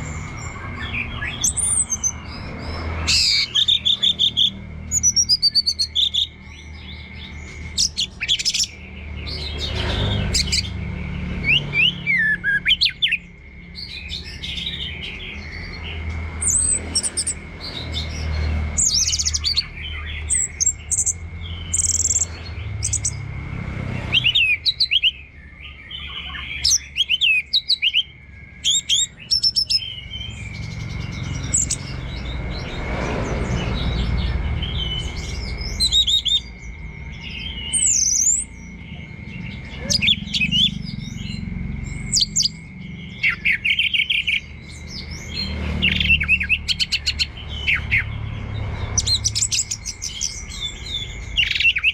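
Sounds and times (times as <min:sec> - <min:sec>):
thrush singing: 0:00.0 - 0:51.9.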